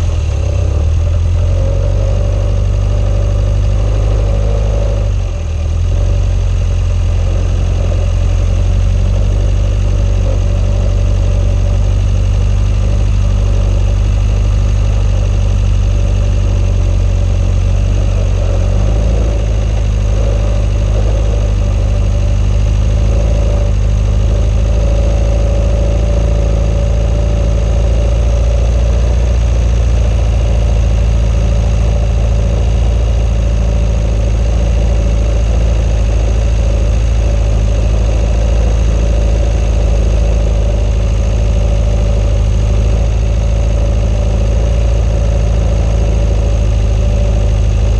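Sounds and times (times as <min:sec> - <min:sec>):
swamp buggy engine drone: 0:00.0 - 0:47.9.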